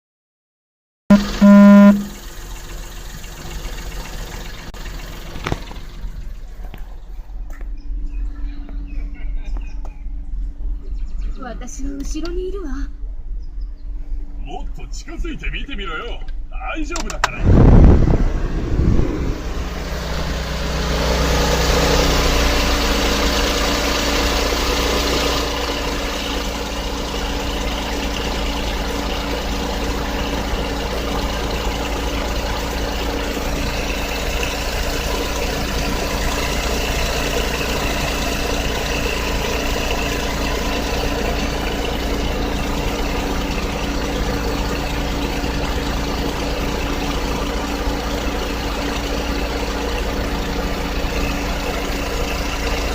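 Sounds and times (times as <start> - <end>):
car engine idling: 1.1 - 52.9.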